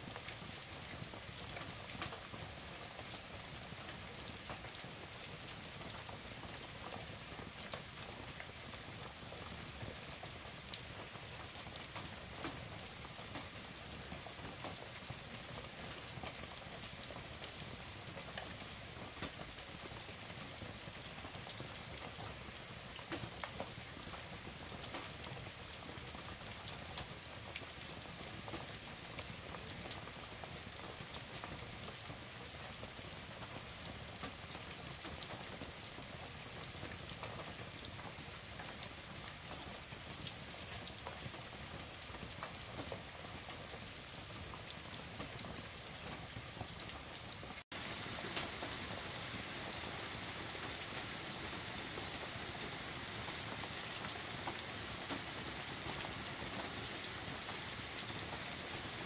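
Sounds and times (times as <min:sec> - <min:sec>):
heavy rain on a trailer roof: 0:00.0 - 0:59.0.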